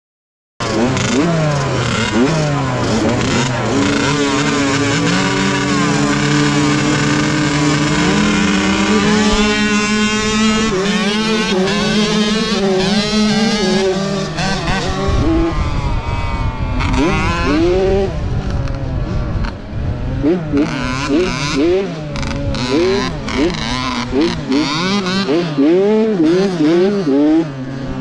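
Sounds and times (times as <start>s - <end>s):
motocross bike engines revving: 0.6s - 28.0s.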